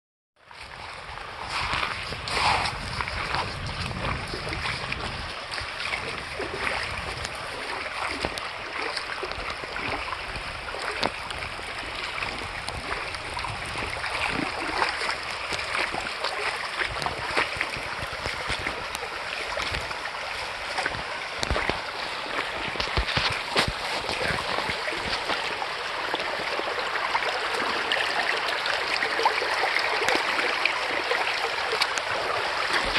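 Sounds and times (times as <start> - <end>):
creek babbling over gravel: 0.4 - 32.9
small water splashes: 0.4 - 32.9.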